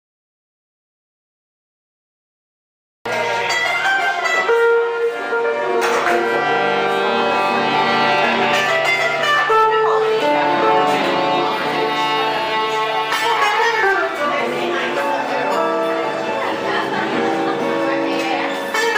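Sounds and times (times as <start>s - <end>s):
live band music: 3.1s - 18.9s
plucked guitar: 3.1s - 18.9s.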